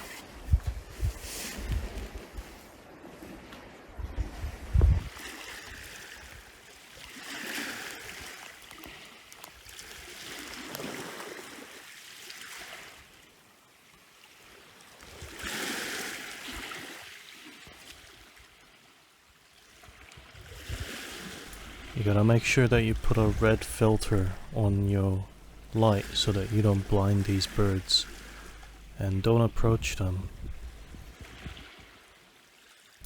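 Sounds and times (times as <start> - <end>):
waves washing on shore: 5.0 - 18.9, 19.6 - 33.0.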